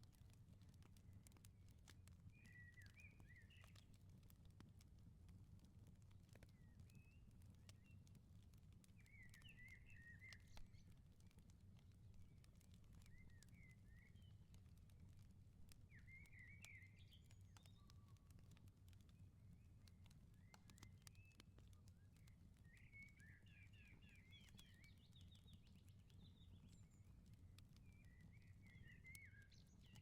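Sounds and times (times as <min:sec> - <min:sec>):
wood fire crackling and popping: 0:00.0 - 0:30.0
small birds chirping: 0:00.2 - 0:04.3, 0:06.3 - 0:11.5, 0:12.1 - 0:30.0.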